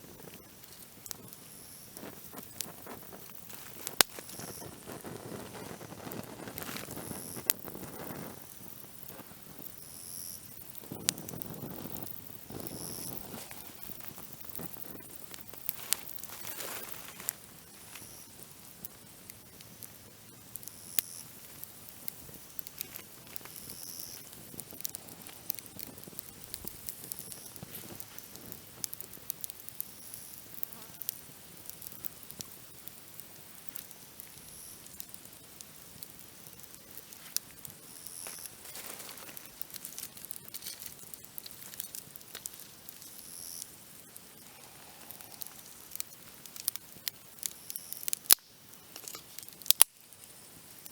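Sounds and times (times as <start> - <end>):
campfire crackling and popping: 0.0 - 50.9
insect chirps: 0.0 - 50.9.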